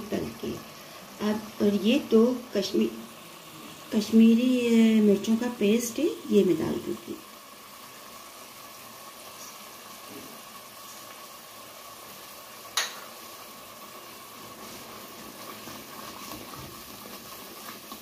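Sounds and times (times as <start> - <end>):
sauce simmering and sizzling: 0.0 - 18.0.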